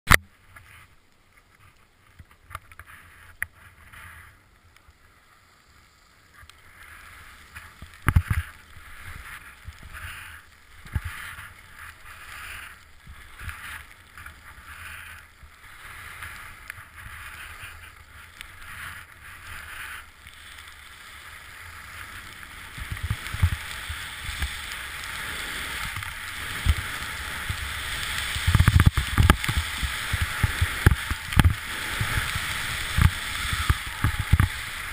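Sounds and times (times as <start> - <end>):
skis scraping over snow: 0.5 - 34.9.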